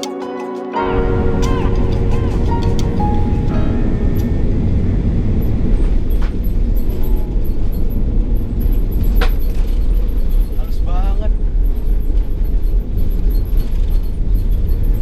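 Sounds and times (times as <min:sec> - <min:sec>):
airplane cabin rumble: 0:00.8 - 0:15.0.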